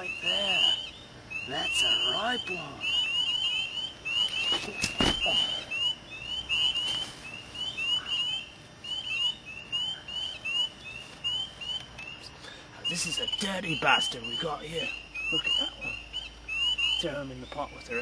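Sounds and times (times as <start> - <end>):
frogs peeping: 0.0 - 18.0.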